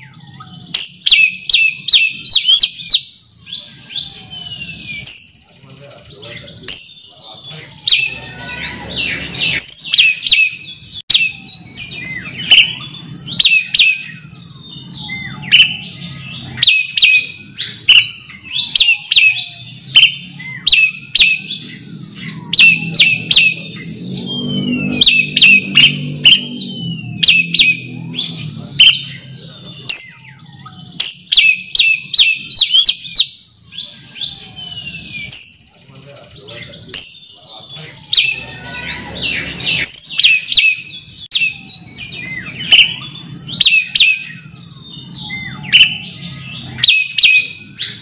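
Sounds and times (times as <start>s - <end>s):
bird singing whistles and chatter: 0.0s - 48.0s.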